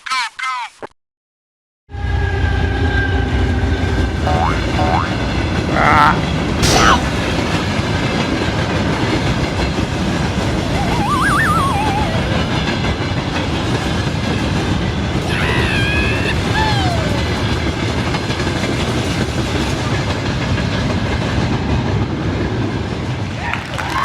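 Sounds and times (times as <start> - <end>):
train running along track: 1.9 - 24.0.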